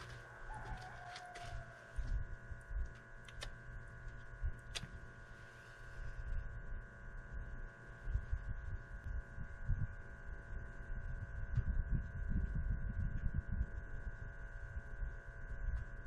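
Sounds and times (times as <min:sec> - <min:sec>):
machine hum with fixed tones: 0:00.0 - 0:16.0.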